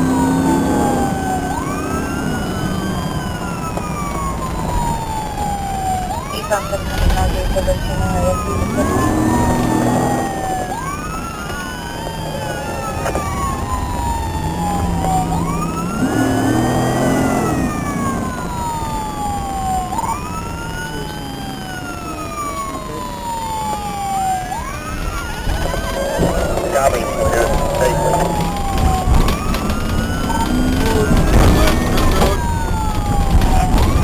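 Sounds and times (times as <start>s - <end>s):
car engine revving: 0.0s - 34.0s
police siren wailing: 0.0s - 34.0s.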